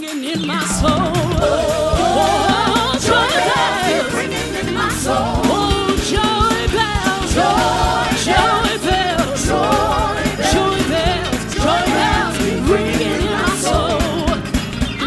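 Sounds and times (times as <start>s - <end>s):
church band with drums and bass: 0.0s - 15.0s
voices singing: 0.1s - 14.7s.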